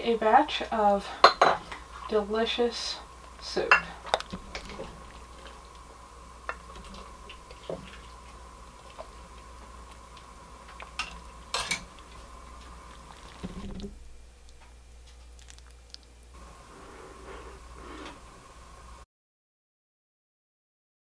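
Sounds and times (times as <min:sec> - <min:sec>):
faint high hum: 0:00.0 - 0:19.0.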